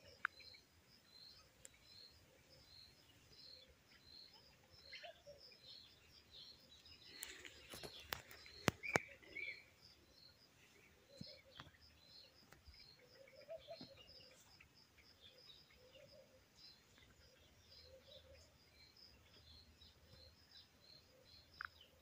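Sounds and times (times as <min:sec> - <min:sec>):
lower bird calls: 0:00.0 - 0:22.0.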